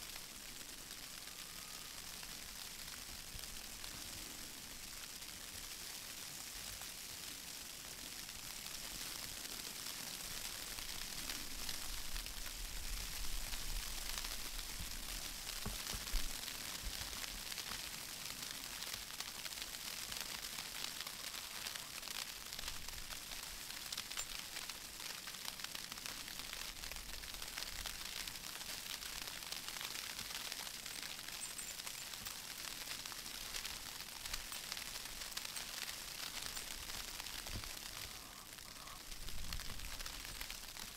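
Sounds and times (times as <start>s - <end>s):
hiss of snow falling: 0.0s - 40.9s.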